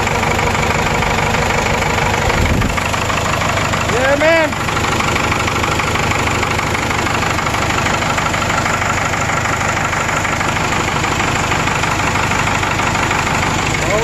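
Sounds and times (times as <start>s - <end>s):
diesel engine clattering: 0.0s - 14.0s.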